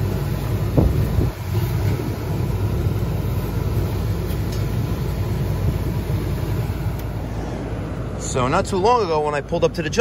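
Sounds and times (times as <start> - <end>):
gas heater burners rumbling: 0.0 - 10.0.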